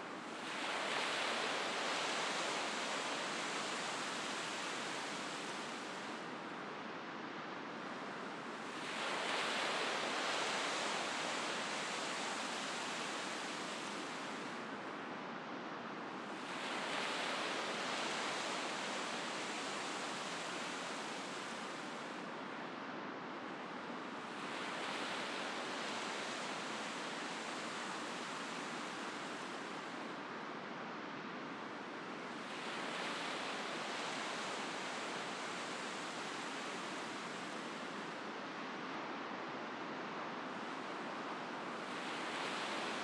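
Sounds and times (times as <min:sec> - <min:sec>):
ocean waves breaking on beach: 0:00.0 - 0:07.0, 0:07.7 - 0:15.1, 0:16.1 - 0:23.1, 0:24.0 - 0:43.0.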